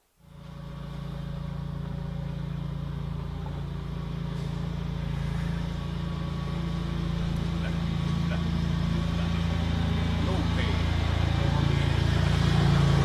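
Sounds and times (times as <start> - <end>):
engine-like low drone: 0.1 - 13.0.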